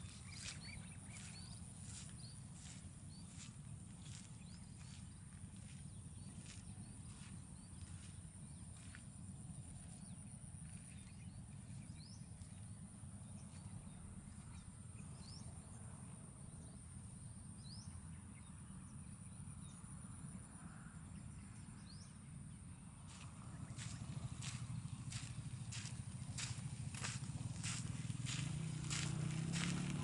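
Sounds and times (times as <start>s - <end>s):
steady low rumble: 0.0s - 16.8s, 22.5s - 30.0s.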